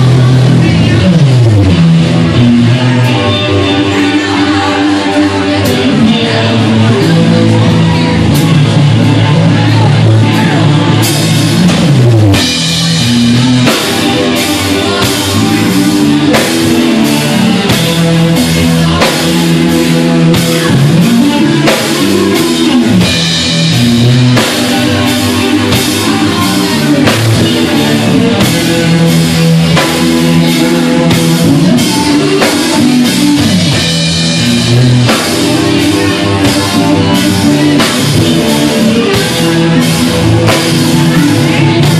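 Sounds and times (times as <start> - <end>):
drum kit: 0.0 - 41.9
electric bass: 0.0 - 41.9
electric guitar: 0.0 - 41.9.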